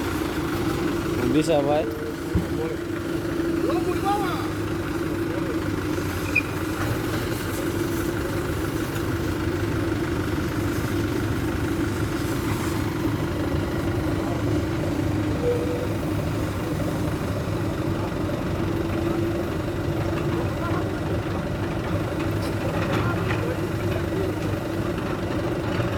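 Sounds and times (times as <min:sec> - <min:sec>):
diesel truck engine idling: 0:00.0 - 0:25.9.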